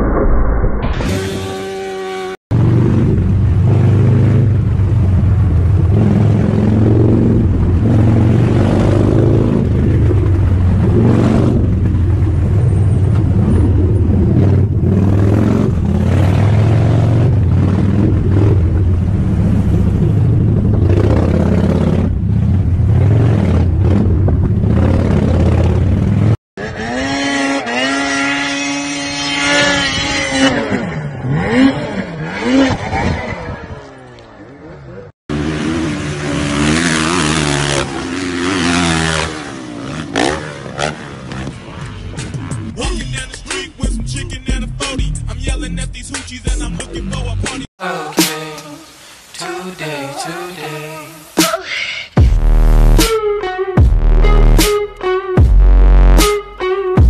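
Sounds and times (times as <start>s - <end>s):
vehicle engine and road noise: 0.0s - 47.7s, 52.2s - 57.0s
engine revving: 0.7s - 47.7s, 52.2s - 57.0s.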